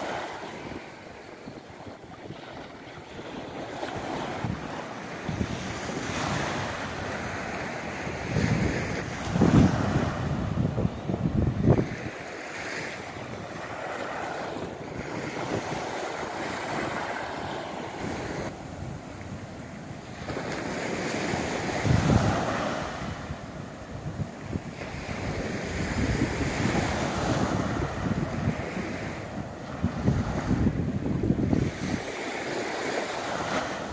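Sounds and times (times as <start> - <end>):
waves washing onto shore: 0.0 - 33.9
wind buffeting microphone: 0.0 - 33.9.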